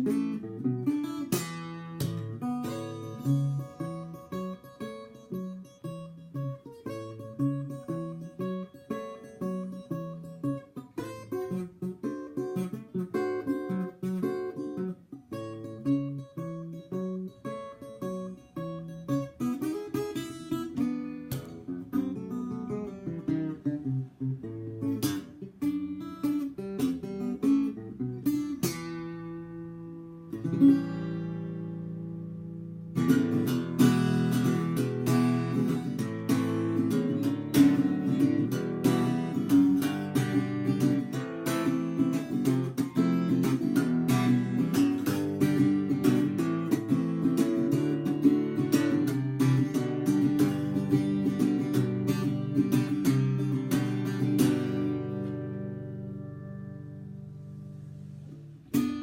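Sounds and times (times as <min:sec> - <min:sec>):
acoustic guitar playing: 0:00.0 - 0:59.0.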